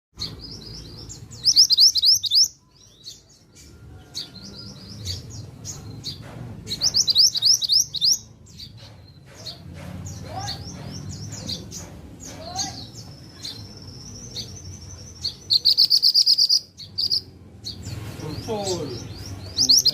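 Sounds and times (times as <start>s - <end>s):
bird chirping high runs: 0.2s - 3.2s, 6.8s - 19.9s
soft bird twittering: 0.2s - 19.9s.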